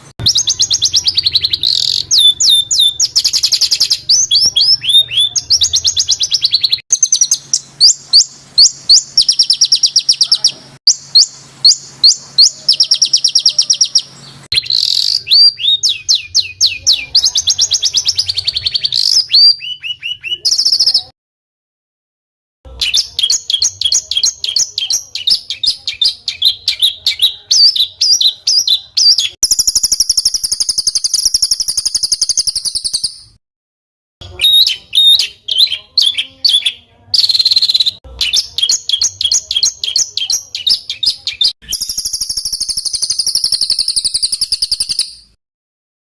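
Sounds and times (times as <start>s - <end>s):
songbird singing rough trills: 0.2s - 21.1s, 22.7s - 33.4s, 34.2s - 45.4s.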